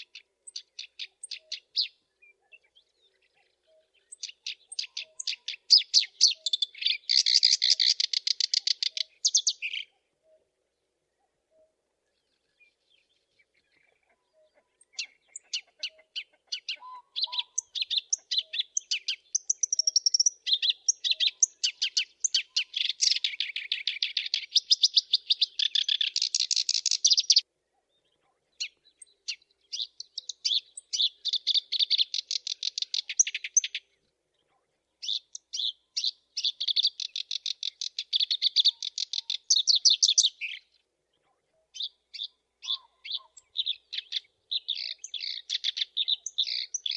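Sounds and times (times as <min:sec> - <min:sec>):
reed warbler chattering song: 0:00.0 - 0:10.0, 0:12.8 - 0:27.5, 0:28.6 - 0:34.0, 0:35.0 - 0:40.9, 0:41.7 - 0:46.9.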